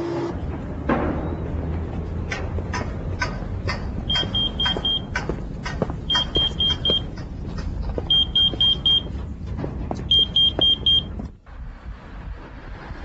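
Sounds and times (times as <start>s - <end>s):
low rumble: 0.3s - 13.0s
scattered knocks: 0.4s - 11.3s.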